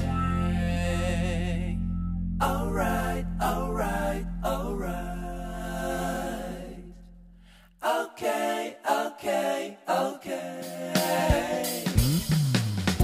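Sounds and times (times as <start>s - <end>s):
song with sung vocals: 0.0s - 12.3s.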